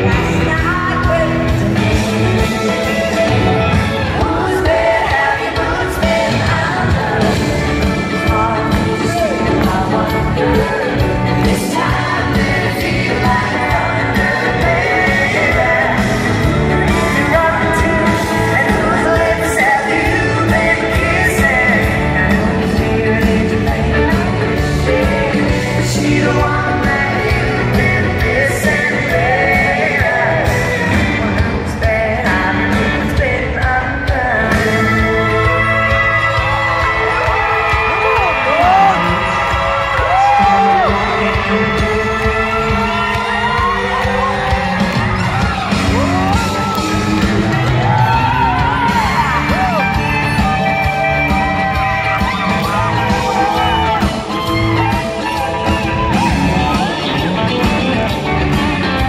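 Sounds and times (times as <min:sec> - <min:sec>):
woman singing lead: 0:00.0 - 0:57.1
electric guitar: 0:00.0 - 0:59.0
live rock band playing: 0:00.0 - 0:59.0
steady drum beat: 0:00.0 - 0:59.0.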